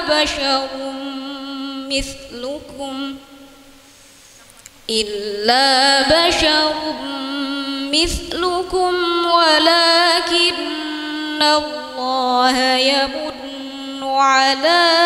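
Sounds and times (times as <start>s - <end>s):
woman chanting melodically: 0.0s - 3.7s, 4.9s - 15.0s.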